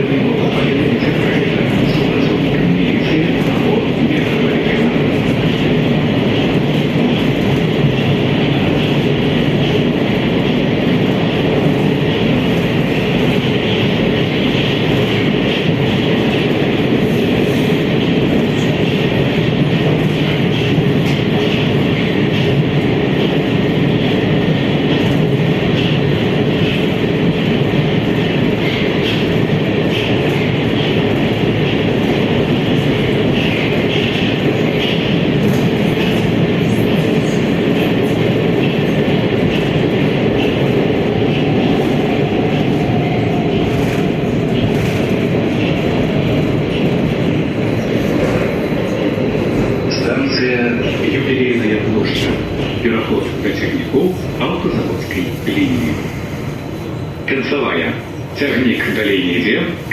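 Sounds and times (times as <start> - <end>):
metro train rumbling in tunnel: 0.0 - 59.9.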